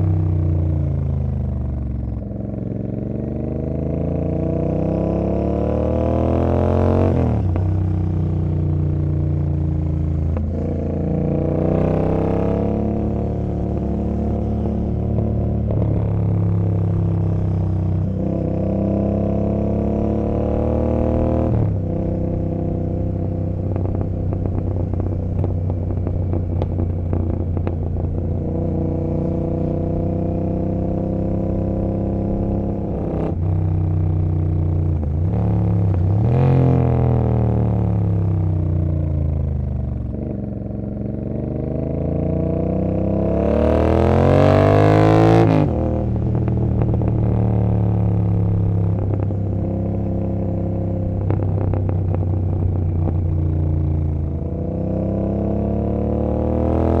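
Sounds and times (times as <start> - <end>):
motorcycle exhaust revving: 0.0 - 57.0.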